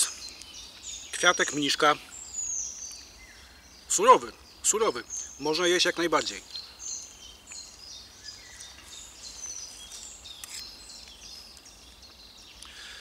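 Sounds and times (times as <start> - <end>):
songbirds chirping and singing: 0.0 - 13.0.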